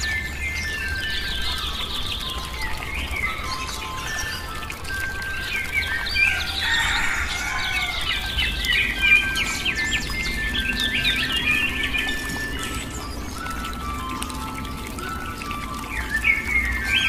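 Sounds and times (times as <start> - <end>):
small birds chirping: 0.0 - 17.0
soft relaxation music: 0.0 - 17.0.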